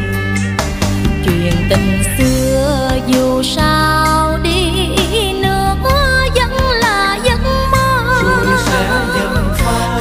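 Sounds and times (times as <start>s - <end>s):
song with vibrato melody: 0.0s - 10.0s.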